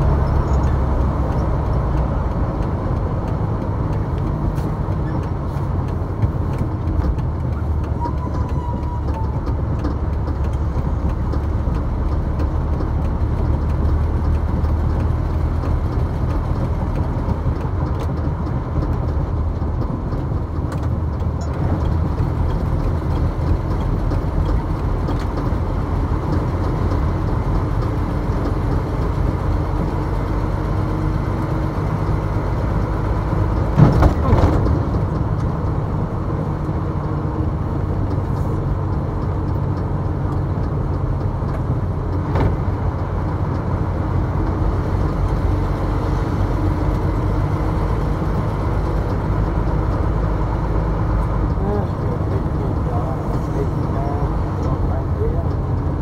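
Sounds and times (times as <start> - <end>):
tyre and road noise: 0.0 - 56.0
vehicle engine running: 0.0 - 56.0.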